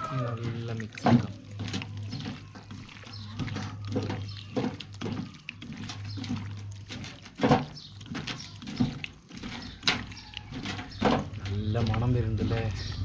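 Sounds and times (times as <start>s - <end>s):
hands squishing wet meat: 0.0s - 13.0s.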